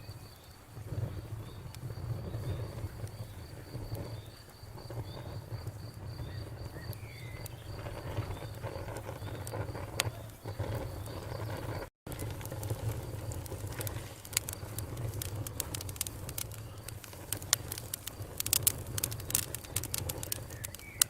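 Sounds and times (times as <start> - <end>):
low steady rumble: 0.0 - 20.8
campfire crackling and popping: 0.0 - 21.0
crickets chirping: 0.0 - 21.0.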